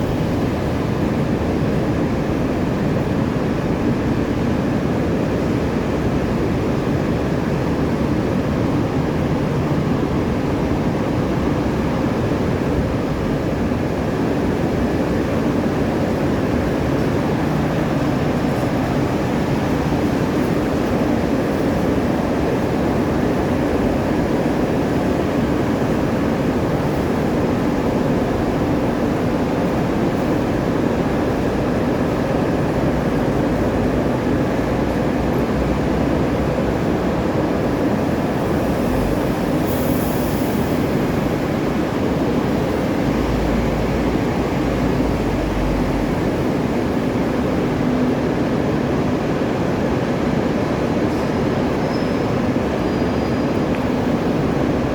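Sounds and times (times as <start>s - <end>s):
wind: 0.0s - 54.9s.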